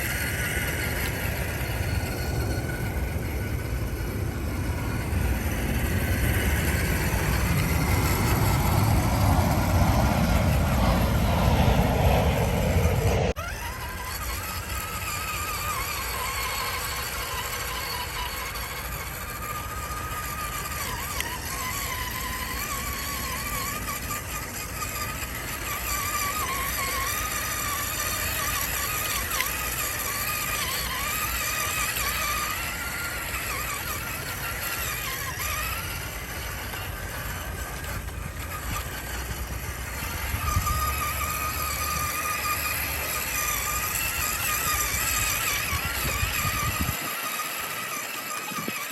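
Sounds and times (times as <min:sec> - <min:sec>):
toy truck motor whining: 0:00.0 - 0:48.9.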